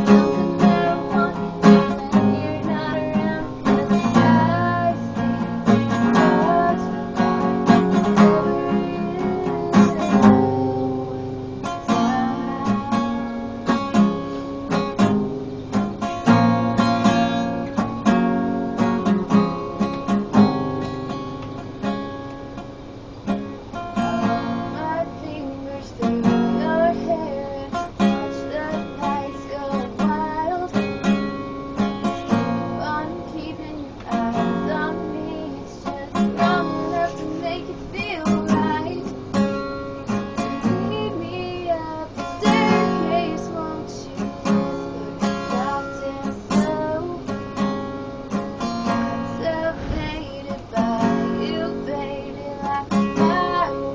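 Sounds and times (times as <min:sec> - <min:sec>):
girl singing: 0:00.0 - 0:20.9, 0:23.3 - 0:53.9
acoustic guitar strumming: 0:00.0 - 0:53.9.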